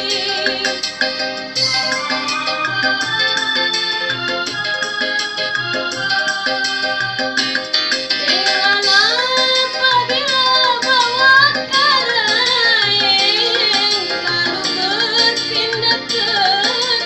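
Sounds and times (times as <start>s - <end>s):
keyboard chords: 0.0s - 17.0s
sliding lead melody: 0.0s - 17.0s.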